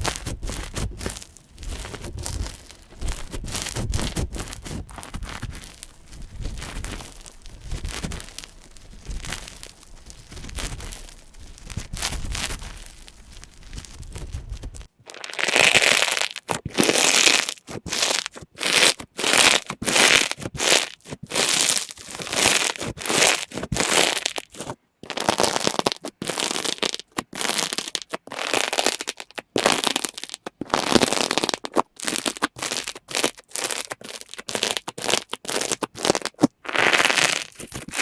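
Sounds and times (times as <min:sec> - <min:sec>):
slime crackling by hand: 0:00.0 - 0:38.0
slime crunching squishes: 0:00.0 - 0:38.0.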